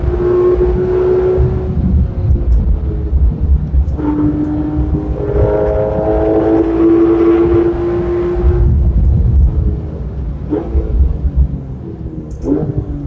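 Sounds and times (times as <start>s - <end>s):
car engine accelerating: 0.0s - 13.0s
road and wind rumble: 0.0s - 13.0s.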